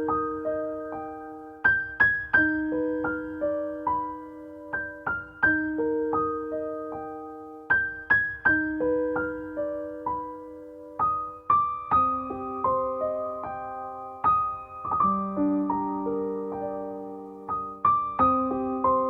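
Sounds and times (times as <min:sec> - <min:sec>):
gentle piano piece: 0:00.0 - 0:19.0.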